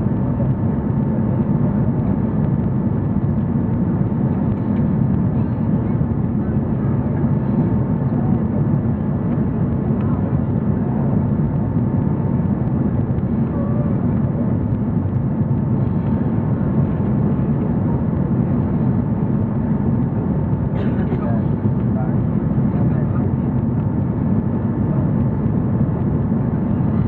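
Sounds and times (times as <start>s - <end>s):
airplane cabin engine drone: 0.0s - 27.0s.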